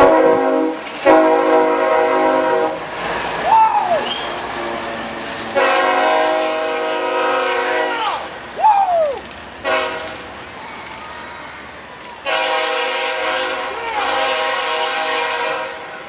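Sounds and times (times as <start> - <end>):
locomotive air horn blasts: 0.0 - 8.6, 9.6 - 10.4, 12.2 - 16.0.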